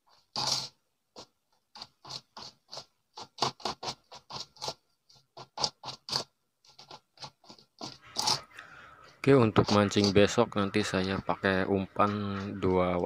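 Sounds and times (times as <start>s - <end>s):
metal spoon scraping plastic bowl: 0.0s - 13.0s.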